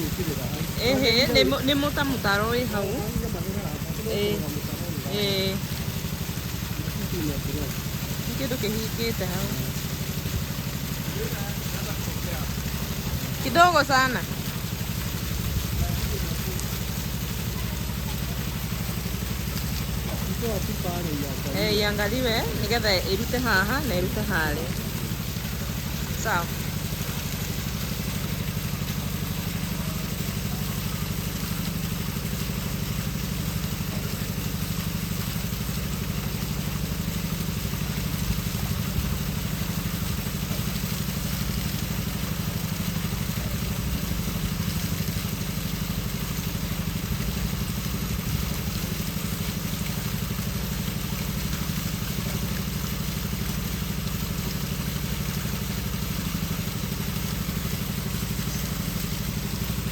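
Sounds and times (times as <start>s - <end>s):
low engine-like drone: 0.0s - 59.9s
water flowing and splashing: 0.0s - 59.9s.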